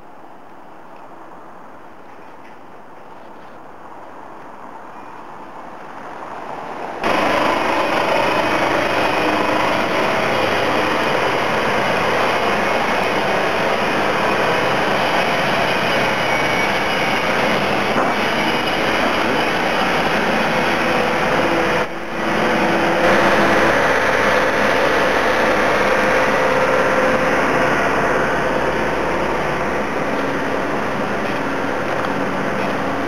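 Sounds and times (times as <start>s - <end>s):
construction machinery diesel drone: 5.0s - 33.0s.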